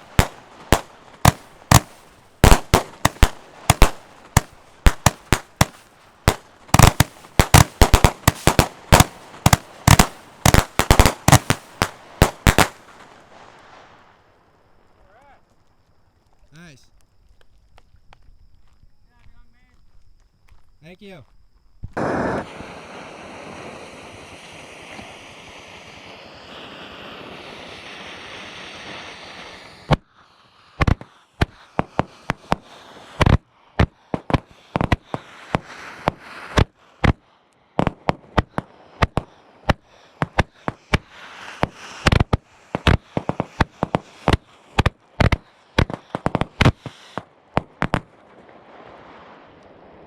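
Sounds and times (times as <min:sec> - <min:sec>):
firework bangs: 0:00.0 - 0:14.3, 0:21.8 - 0:50.0
firework hiss: 0:00.0 - 0:14.4, 0:21.8 - 0:50.0.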